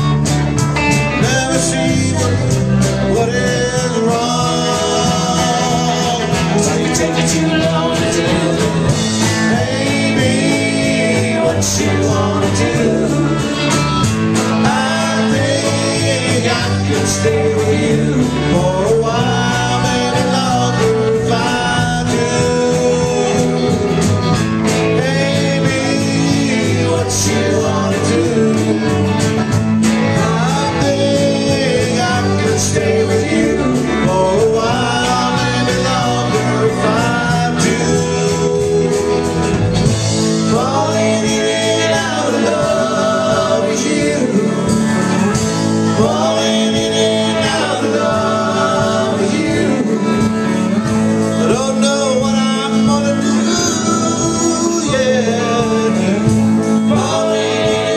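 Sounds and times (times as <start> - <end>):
acoustic and electric guitars: 0.0 - 57.9
drum kit: 0.0 - 57.9
person singing: 0.0 - 57.9.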